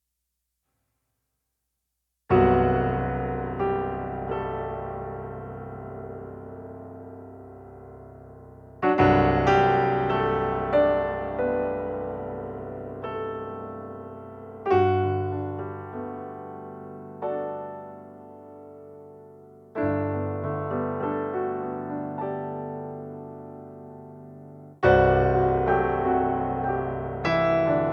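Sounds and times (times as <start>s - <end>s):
gentle solo piano: 2.3s - 27.9s.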